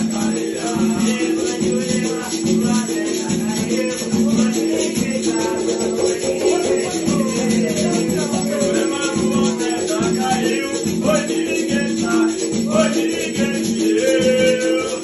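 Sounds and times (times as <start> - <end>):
shaken rattle: 0.0 - 15.0
voices singing: 0.0 - 15.0.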